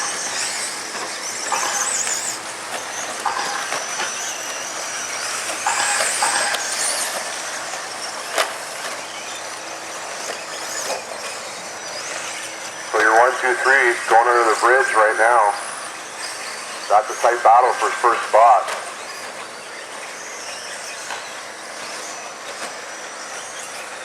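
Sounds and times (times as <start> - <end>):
rc truck motors whining: 0.0 - 24.0.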